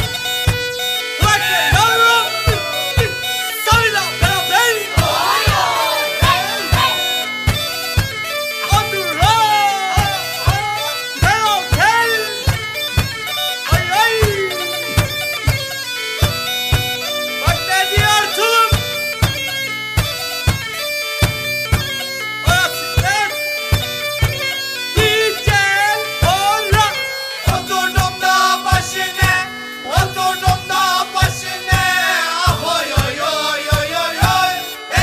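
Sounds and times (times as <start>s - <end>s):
drum beats: 0.0s - 35.0s
reedy wind instrument melody: 0.0s - 35.0s.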